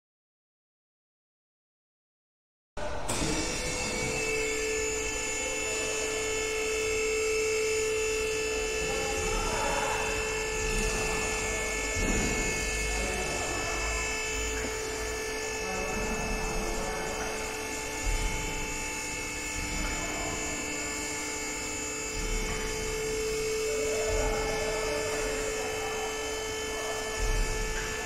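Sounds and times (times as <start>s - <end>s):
hydraulic pump motor whine: 2.8s - 28.0s.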